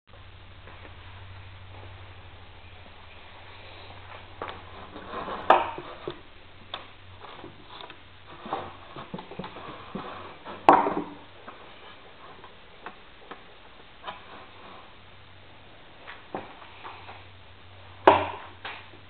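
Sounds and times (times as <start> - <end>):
faint low hum: 0.1 - 19.0.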